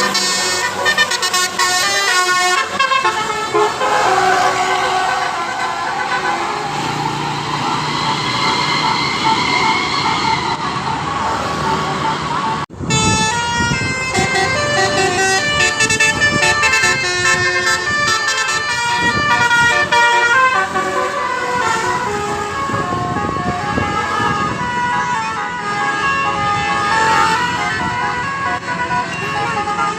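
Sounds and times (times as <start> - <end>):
multi-tone bus horns playing melodies: 0.0 - 29.9
road noise: 0.0 - 29.9.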